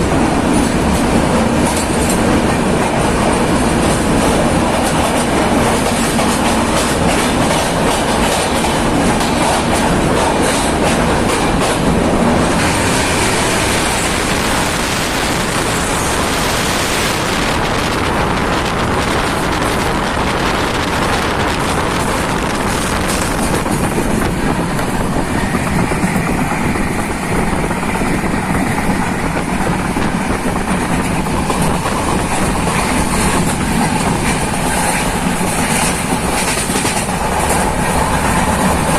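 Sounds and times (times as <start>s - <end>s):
wheels clicking over rail joints: 0.0s - 16.4s, 21.0s - 38.9s
train coaches rumbling: 0.0s - 38.9s.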